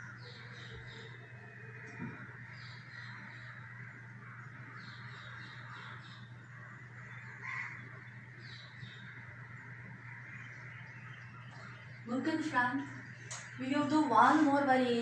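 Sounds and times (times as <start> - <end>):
birds calling: 0.0 - 15.0
steady low hum: 0.0 - 15.0.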